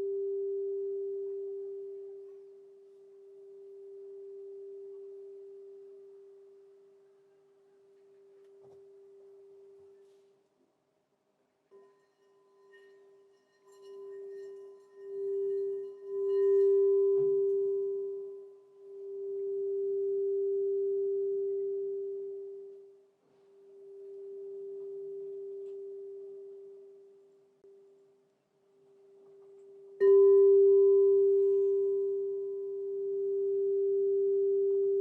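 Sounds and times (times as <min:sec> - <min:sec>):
singing bowl low tone: 0:00.0 - 0:10.1, 0:11.7 - 0:28.0, 0:28.9 - 0:35.0.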